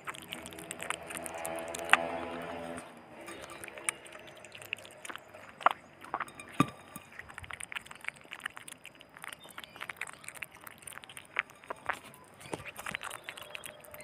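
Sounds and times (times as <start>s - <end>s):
sharp clicks: 0.0s - 14.0s
wet chewing smacks and crunches: 0.0s - 14.0s.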